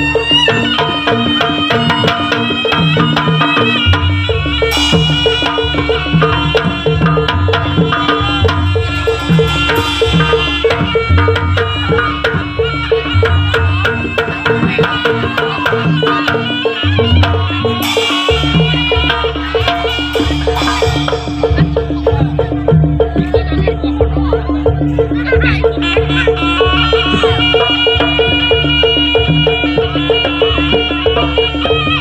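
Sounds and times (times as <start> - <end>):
barrel drums beating fast rhythm: 0.0 - 32.0
pitched melodic percussion: 0.0 - 32.0.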